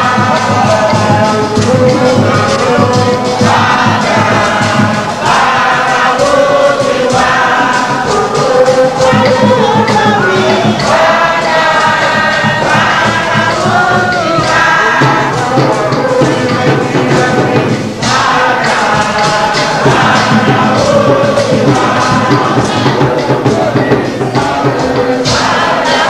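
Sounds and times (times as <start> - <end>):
choir and congregation singing: 0.0 - 26.0
percussion: 0.0 - 26.0.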